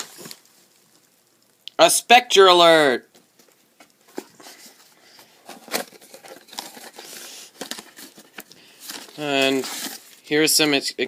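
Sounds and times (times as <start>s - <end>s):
packaging rustling and crinkling: 0.0s - 1.3s, 3.2s - 11.0s.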